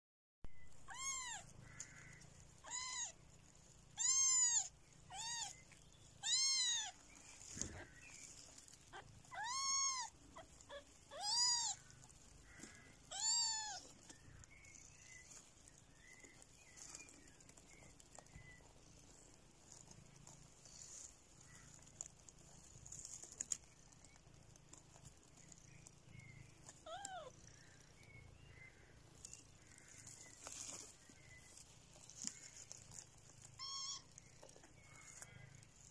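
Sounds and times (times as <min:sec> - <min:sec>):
kittens meowing: 0:00.6 - 0:23.6, 0:26.2 - 0:28.1, 0:28.7 - 0:35.9.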